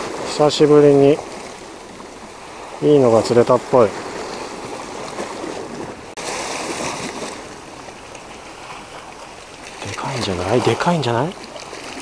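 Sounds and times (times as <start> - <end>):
sea waves over rocks: 0.0 - 12.0.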